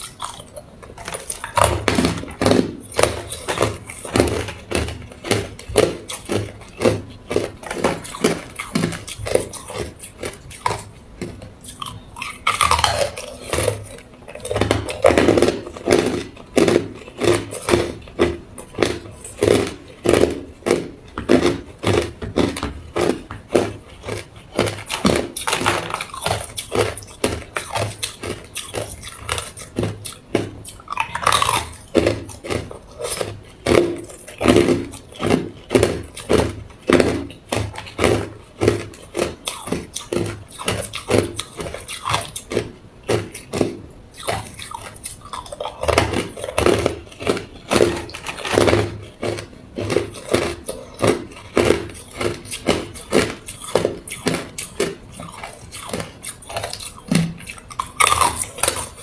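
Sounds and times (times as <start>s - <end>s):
person crunching ice cubes: 0.0s - 59.0s.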